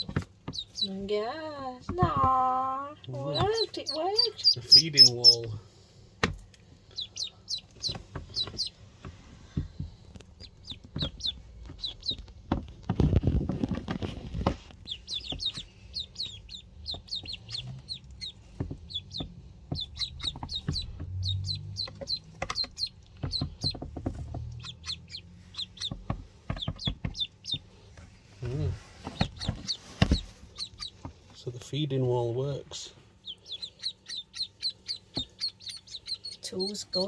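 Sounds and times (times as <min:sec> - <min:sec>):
ducklings peeping: 0:00.0 - 0:12.7, 0:14.0 - 0:37.0.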